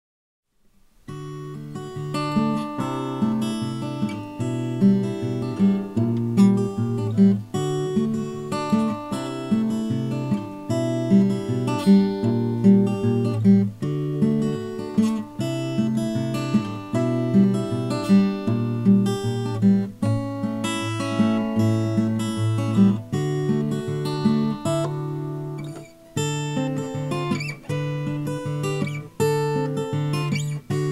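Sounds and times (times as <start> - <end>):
acoustic guitar playing: 0.8 - 30.9.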